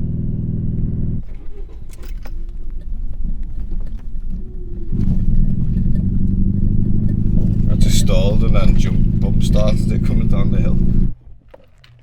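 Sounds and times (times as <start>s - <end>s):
misfiring car engine running: 0.0s - 11.4s.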